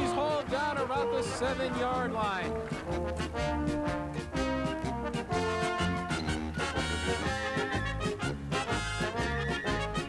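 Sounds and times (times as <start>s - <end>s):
brass swing music: 0.0s - 10.0s.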